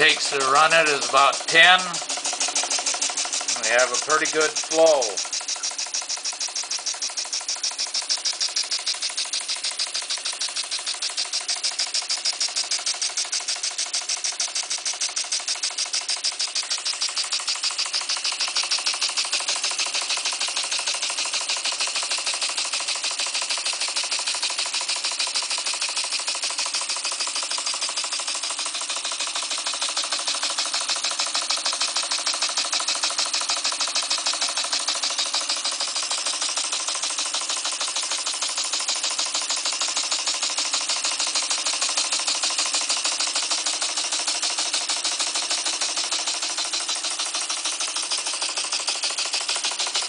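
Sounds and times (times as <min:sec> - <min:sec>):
light mechanical rattle: 0:00.0 - 0:50.0
model steam engine chuffing: 0:00.0 - 0:50.0.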